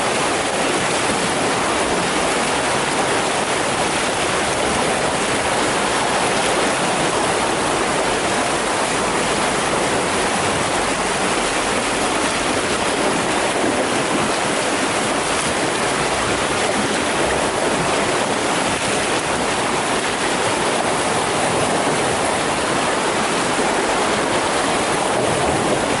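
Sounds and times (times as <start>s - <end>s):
seawater rushing through inlet: 0.0s - 26.0s.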